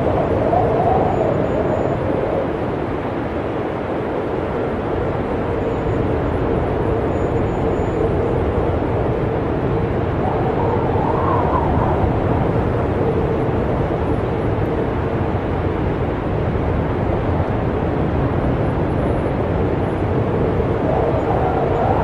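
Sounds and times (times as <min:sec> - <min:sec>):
snowstorm wind roaring: 0:00.0 - 0:22.0.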